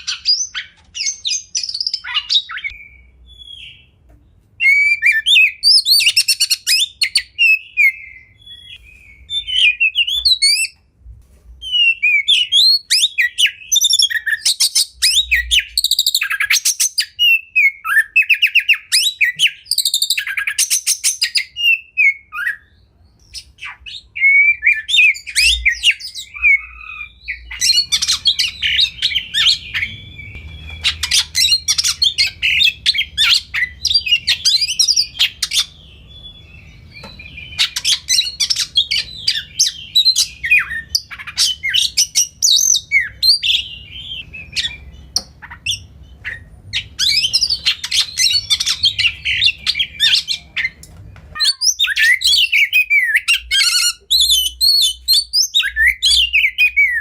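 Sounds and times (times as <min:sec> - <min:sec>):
magpie-robin singing: 0:00.0 - 0:04.0, 0:04.6 - 0:10.8, 0:11.6 - 0:57.0.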